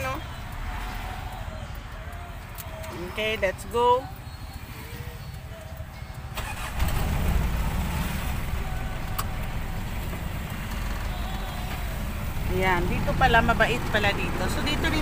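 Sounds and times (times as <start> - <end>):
van engine rumbling: 0.0 - 15.0.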